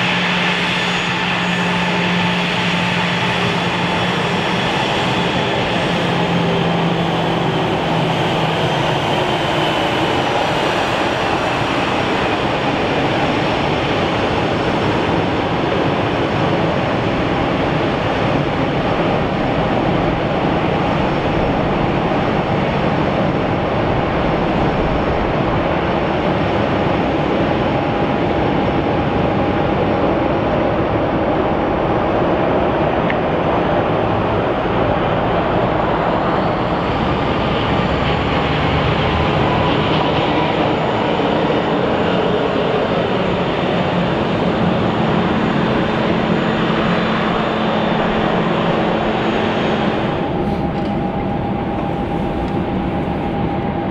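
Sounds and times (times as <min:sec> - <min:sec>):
faint high engine whine: 0:00.0 - 0:53.9
jet engines rumbling: 0:00.0 - 0:53.9.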